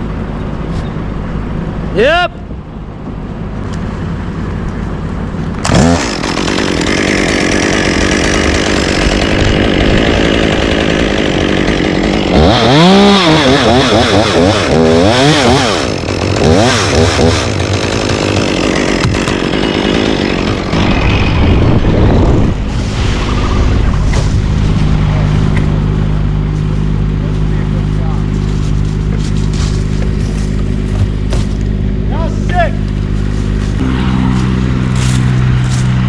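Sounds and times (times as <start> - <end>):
chainsaw running and cutting: 5.5 - 36.0.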